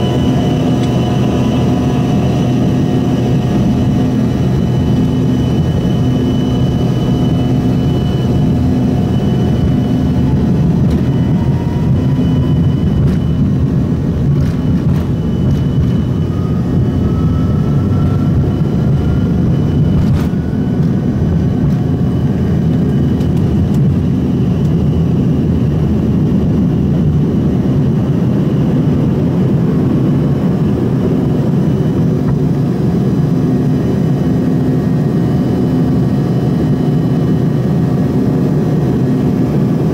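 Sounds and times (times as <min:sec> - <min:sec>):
jet engine cabin noise: 0:00.0 - 0:39.9.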